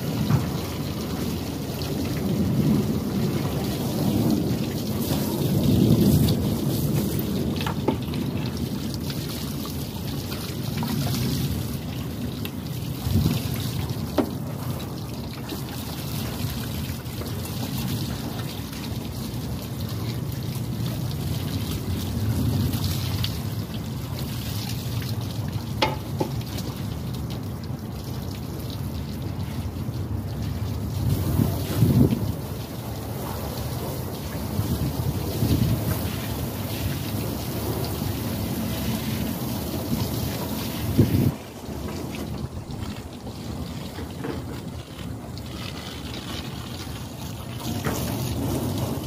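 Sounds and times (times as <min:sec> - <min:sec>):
water from hose splashing: 0:00.0 - 0:49.0.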